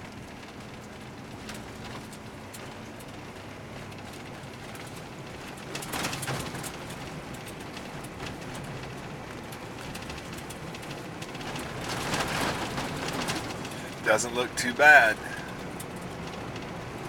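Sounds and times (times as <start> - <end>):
car engine hum: 0.0 - 17.0
gravel crackling under tyres: 0.0 - 17.0.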